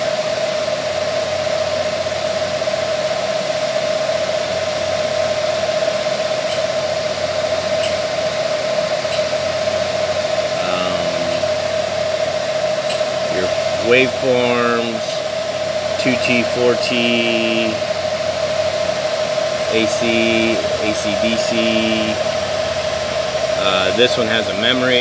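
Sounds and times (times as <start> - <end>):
cooling fan humming: 0.0 - 25.0.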